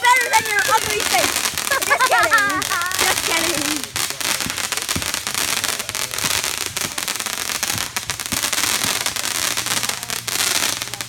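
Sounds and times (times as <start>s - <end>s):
deep firework bangs: 0.0s - 11.0s
fireworks crackling: 0.0s - 11.0s.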